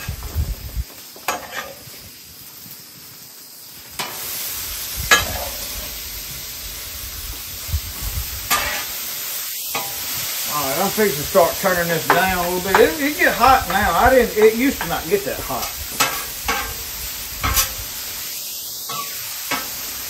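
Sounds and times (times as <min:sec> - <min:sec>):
food sizzling on a griddle: 0:00.0 - 0:20.0.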